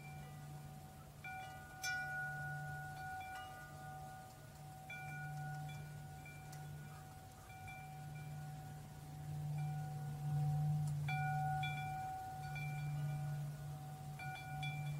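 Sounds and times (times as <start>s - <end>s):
low steady hum: 0.0s - 14.9s
metal wind chimes ringing: 0.0s - 14.9s.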